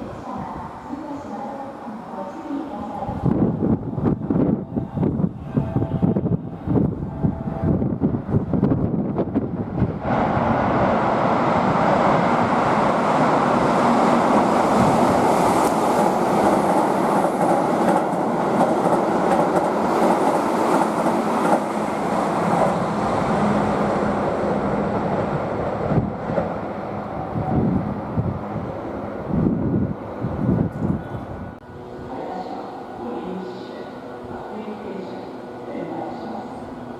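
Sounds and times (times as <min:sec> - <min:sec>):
electric train rumbling on rails: 0:00.0 - 0:36.9.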